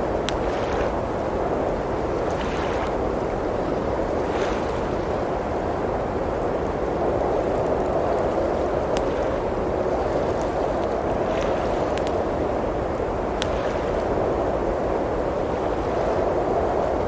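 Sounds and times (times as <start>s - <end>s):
blizzard wind blowing: 0.0s - 17.0s
wood fire pops and crackles: 0.0s - 17.0s.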